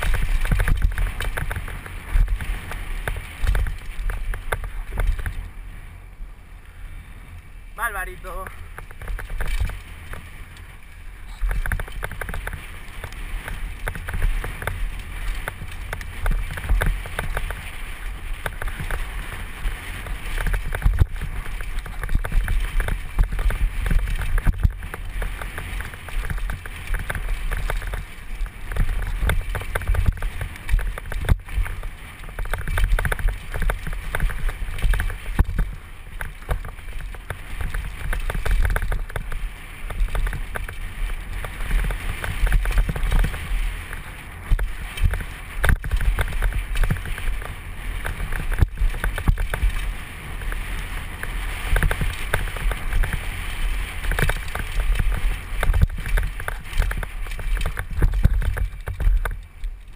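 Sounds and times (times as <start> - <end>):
bike knocking and rattling: 0.0 - 5.9, 6.7 - 59.9
wind buffeting microphone: 7.8 - 59.9.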